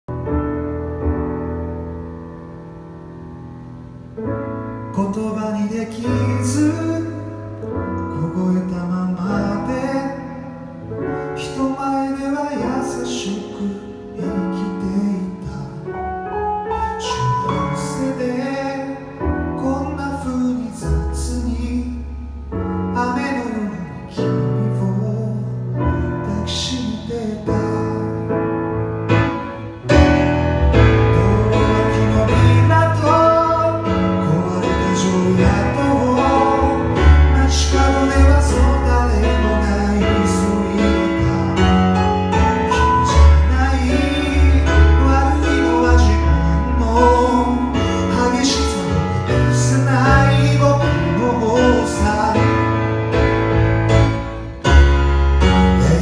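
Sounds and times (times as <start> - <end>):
slow piano ballad: 0.0 - 56.0.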